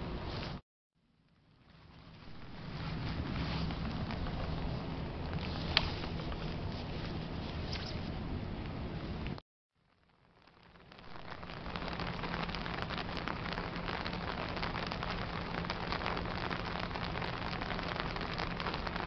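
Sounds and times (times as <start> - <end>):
steady rain falling: 1.1 - 7.6, 8.2 - 19.0.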